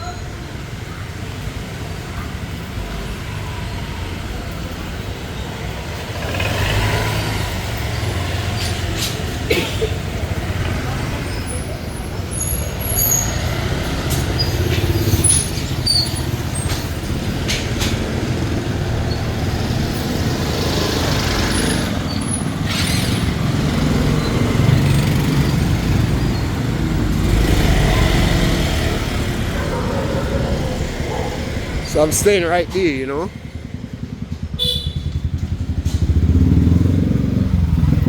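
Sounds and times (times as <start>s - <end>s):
motorbike traffic rumbling: 0.0s - 38.0s.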